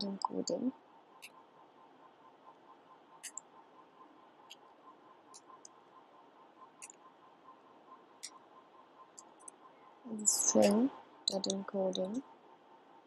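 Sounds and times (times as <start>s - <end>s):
low background hiss: 0.0s - 13.0s.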